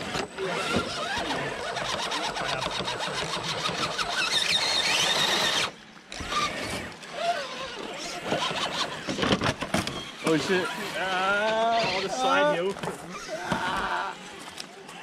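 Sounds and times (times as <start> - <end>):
rc car motor whining with clicking: 0.0 - 15.0.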